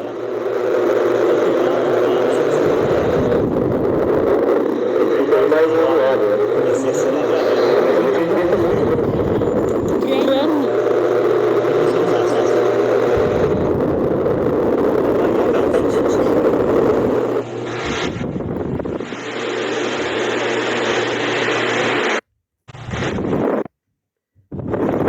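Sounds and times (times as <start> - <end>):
electric fan running: 0.0 - 23.7.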